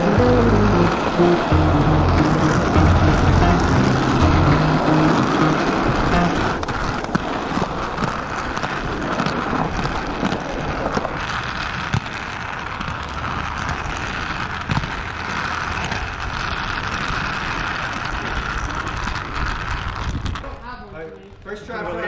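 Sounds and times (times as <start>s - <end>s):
skate wheels rolling on concrete: 0.0s - 22.0s.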